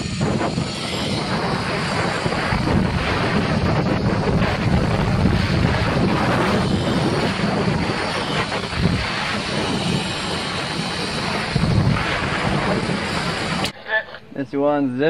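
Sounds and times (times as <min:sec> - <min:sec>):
wind buffeting microphone: 0:00.0 - 0:13.7.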